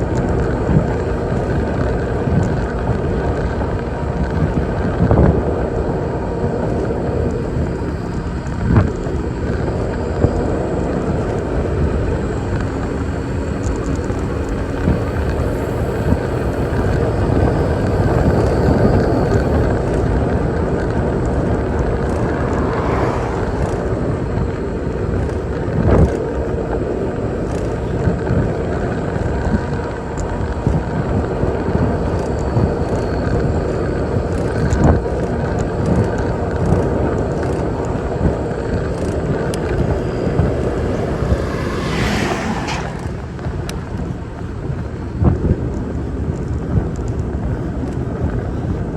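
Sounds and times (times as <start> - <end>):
cars passing: 0.0 - 48.9
wind and road noise: 0.0 - 48.9.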